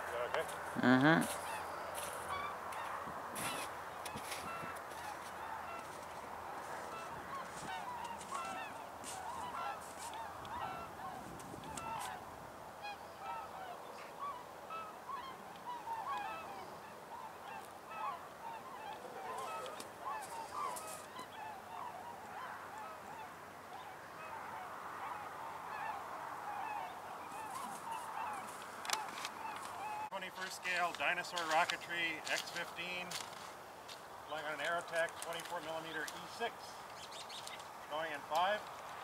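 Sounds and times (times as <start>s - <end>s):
geese honking: 0.0s - 12.2s, 12.8s - 33.3s.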